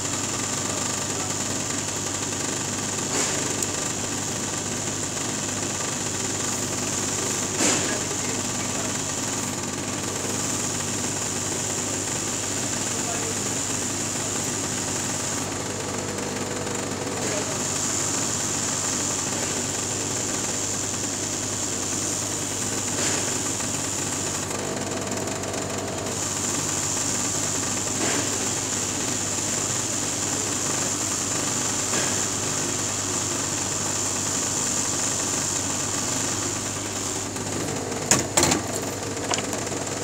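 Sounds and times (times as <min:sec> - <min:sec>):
hot-air gun hissing: 0:00.0 - 0:40.0.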